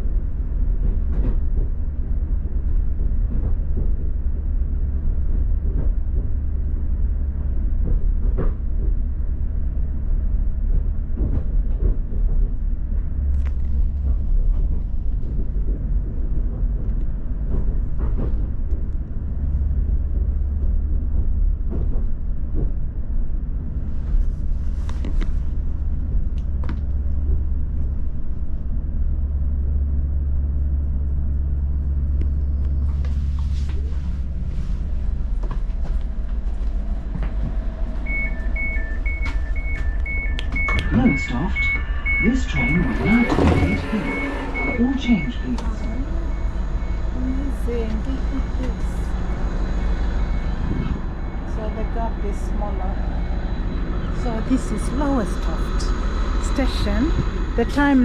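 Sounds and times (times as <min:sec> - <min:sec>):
train knocks and rattles: 0:00.0 - 0:58.0
train rumbling on rails: 0:00.0 - 0:58.0.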